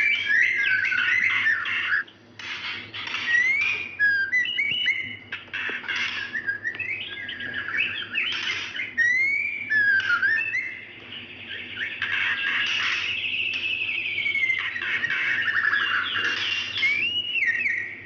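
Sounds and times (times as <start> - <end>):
bird whistling and buzzy calls: 0.0 - 18.0.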